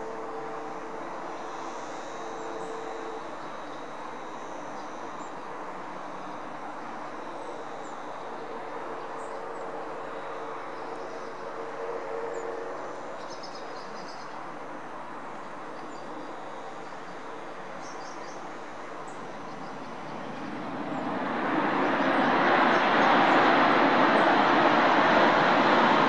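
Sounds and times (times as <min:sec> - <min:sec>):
jet engines on approach: 0:00.0 - 0:26.0.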